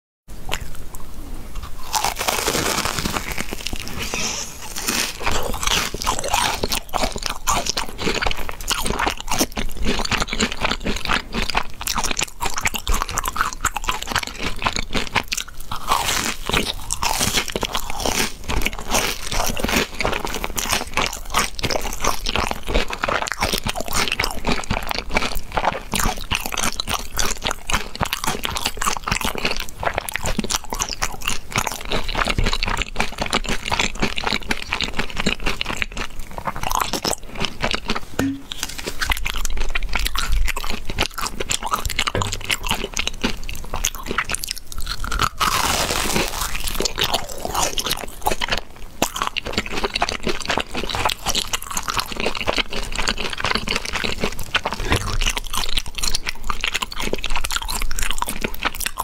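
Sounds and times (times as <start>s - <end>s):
crunching and chewing crispy food: 0.4s - 59.0s.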